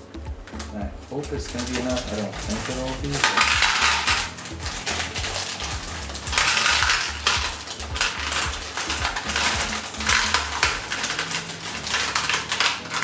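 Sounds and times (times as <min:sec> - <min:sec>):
plastic bag crinkling: 0:00.5 - 0:13.0
rocks clattering onto fountain: 0:00.5 - 0:13.0.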